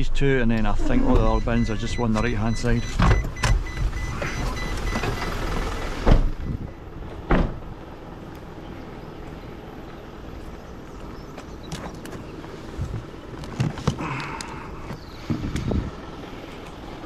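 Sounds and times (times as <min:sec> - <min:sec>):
lorry engine idling: 0:00.0 - 0:17.0.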